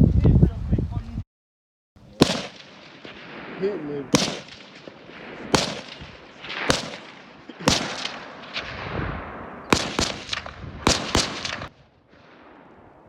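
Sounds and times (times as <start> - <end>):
gunshots with echo: 2.2 - 13.0.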